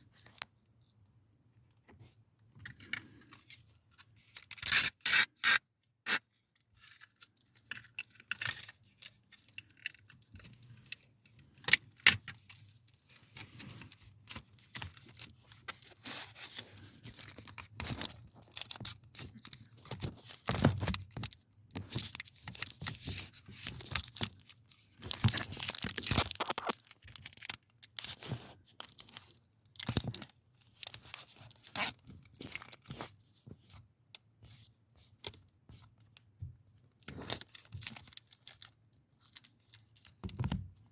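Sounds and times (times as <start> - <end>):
plastic parts clicking and scraping: 1.8 - 40.9.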